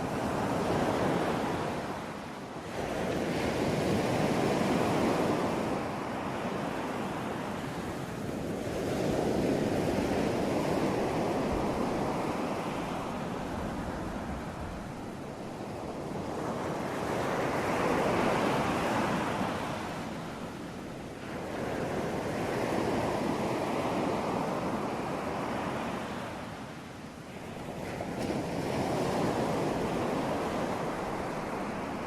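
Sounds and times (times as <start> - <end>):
waves breaking and washing in: 0.0 - 32.0.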